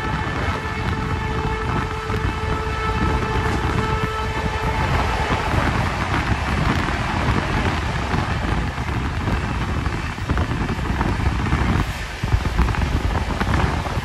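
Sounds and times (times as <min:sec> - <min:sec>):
train wheels rumbling on track: 0:00.0 - 0:14.0
wind noise: 0:00.0 - 0:14.0.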